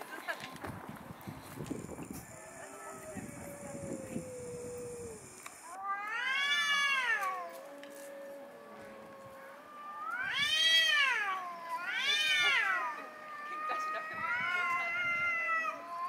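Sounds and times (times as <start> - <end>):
cat low drawn-out moan: 2.1 - 16.0
cats yowling: 2.1 - 16.0.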